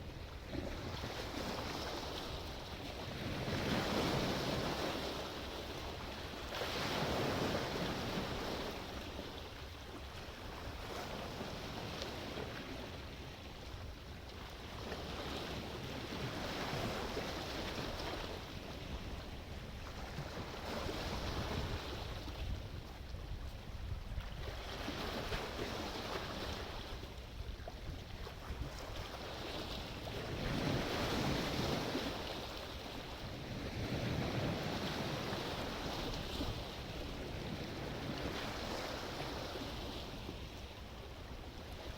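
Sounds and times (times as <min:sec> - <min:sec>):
low rumble of surf: 0:00.0 - 0:41.9.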